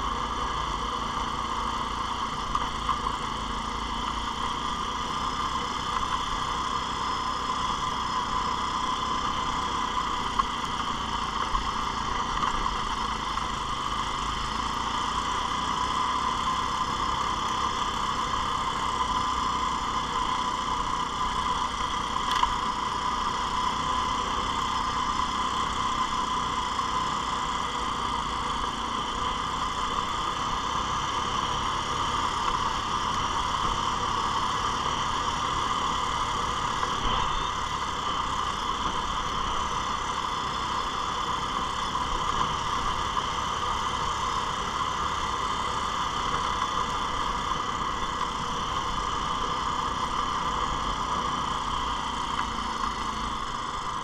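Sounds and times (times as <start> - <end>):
quad engine running: 0.0 - 54.0.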